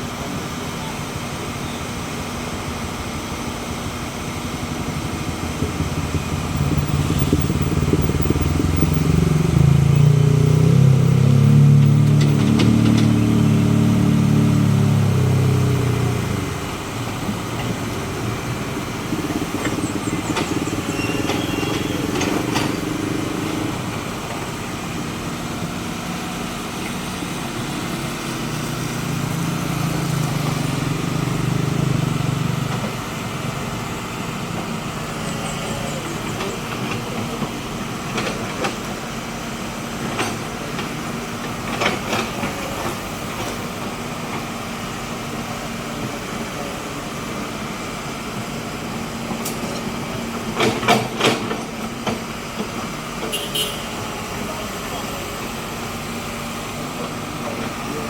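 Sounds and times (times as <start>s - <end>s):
engine drone: 0.0s - 58.0s
vehicle engines on road: 0.0s - 58.0s.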